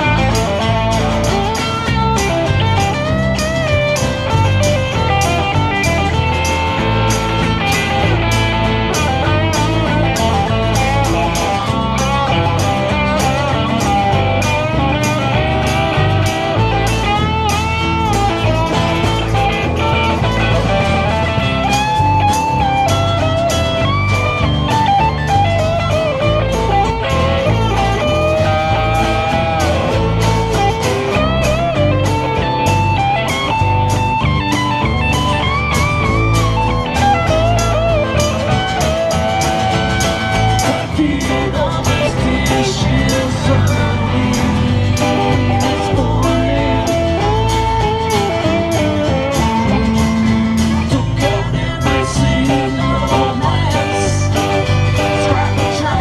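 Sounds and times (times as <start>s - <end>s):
lead guitar with bent notes: 0.0s - 56.0s
steady drum beat: 0.0s - 56.0s
strummed guitar: 0.0s - 56.0s.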